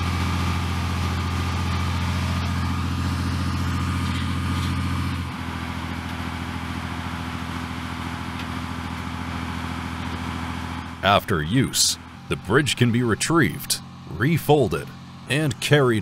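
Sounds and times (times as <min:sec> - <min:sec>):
tracked vehicle engine running: 0:00.0 - 0:16.0.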